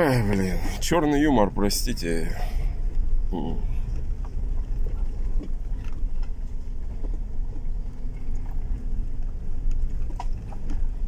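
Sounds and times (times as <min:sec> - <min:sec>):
car tyres rumbling on gravel: 0:00.0 - 0:11.0.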